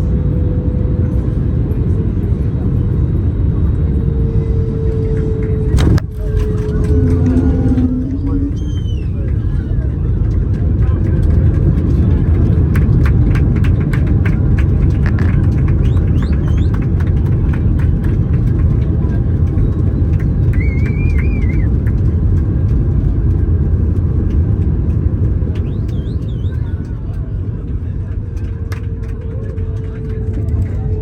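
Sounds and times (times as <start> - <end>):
aircraft cabin engine rumble: 0.0 - 31.0.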